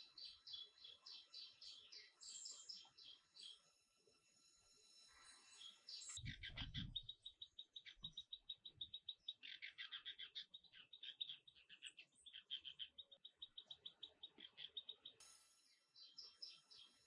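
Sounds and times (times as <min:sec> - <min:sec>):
bird chirps: 0:00.0 - 0:03.8, 0:05.1 - 0:17.0.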